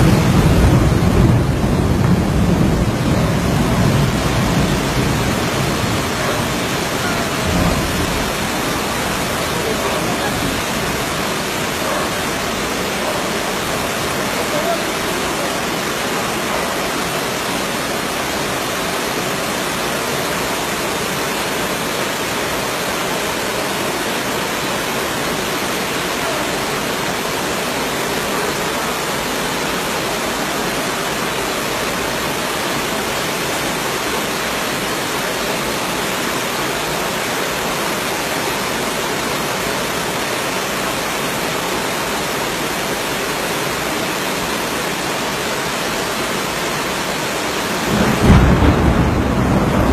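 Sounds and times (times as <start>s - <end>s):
heavy rain: 0.0s - 49.9s
running floodwater: 0.0s - 49.9s.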